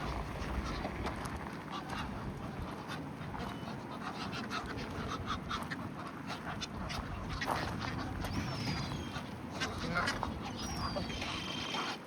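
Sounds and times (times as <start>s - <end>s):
ducks and geese calling: 0.0s - 12.0s.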